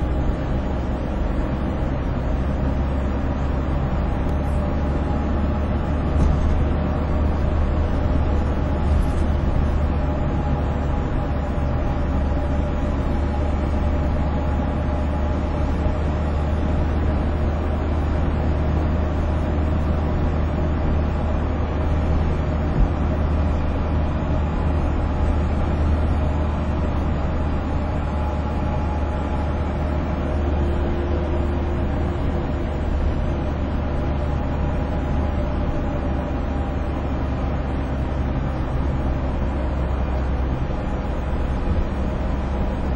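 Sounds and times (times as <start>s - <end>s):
engine and tyre rumble: 0.0s - 42.9s.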